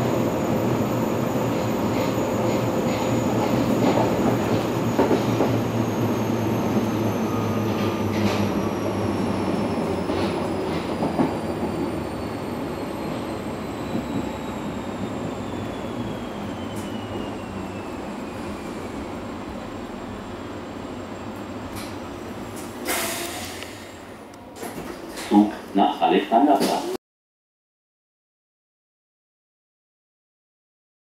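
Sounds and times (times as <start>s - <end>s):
train wheels rumbling on track: 0.0s - 25.8s.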